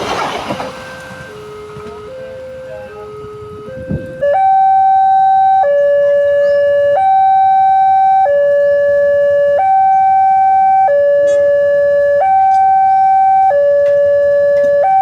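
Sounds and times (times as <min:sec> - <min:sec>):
two-tone warning alarm: 0:00.0 - 0:15.0.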